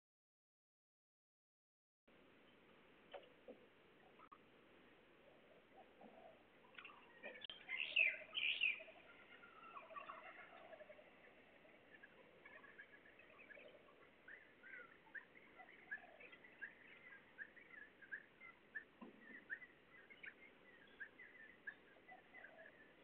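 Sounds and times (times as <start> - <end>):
small birds chirping: 2.3 - 23.0.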